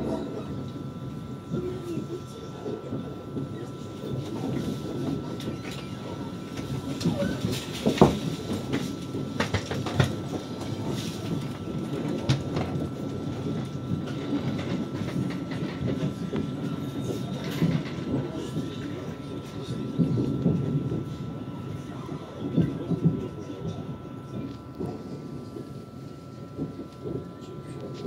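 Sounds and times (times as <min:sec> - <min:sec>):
faint steady whine: 0:00.0 - 0:28.0
train wheels rumbling on rail: 0:00.0 - 0:28.0.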